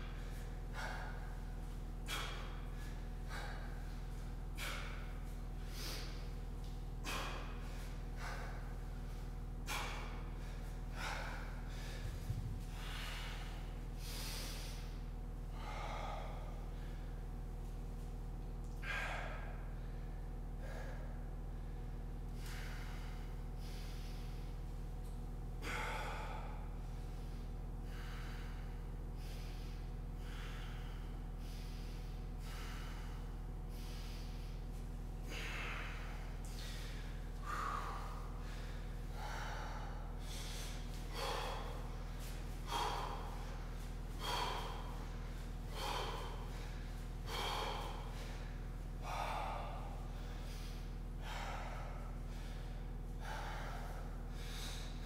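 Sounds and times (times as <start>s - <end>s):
man breathing hard: 0.0s - 55.0s
steady low hum: 0.0s - 55.0s.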